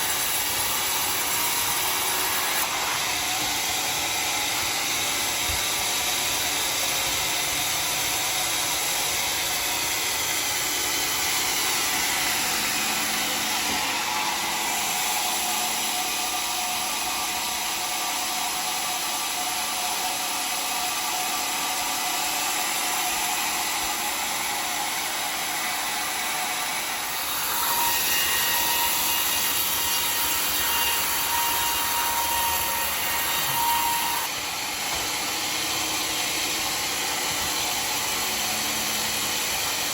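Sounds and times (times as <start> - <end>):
saw blade cutting log: 0.0 - 39.9.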